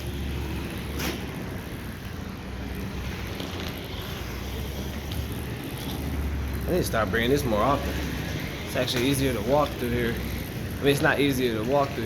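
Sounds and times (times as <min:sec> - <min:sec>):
roller skate wheels rolling: 0:00.0 - 0:12.0.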